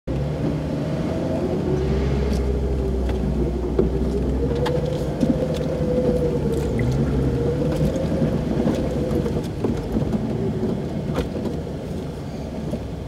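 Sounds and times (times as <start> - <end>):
low engine drone: 0.1 - 13.0.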